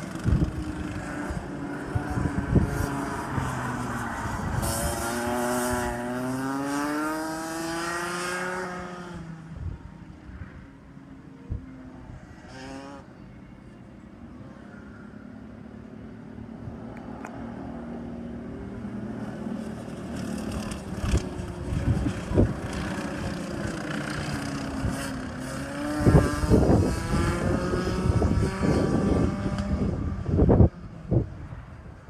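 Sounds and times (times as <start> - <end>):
kart engines racing: 0.0 - 32.0.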